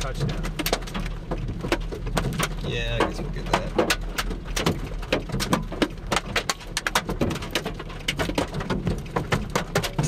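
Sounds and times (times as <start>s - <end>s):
raindrops tapping: 0.0s - 10.0s.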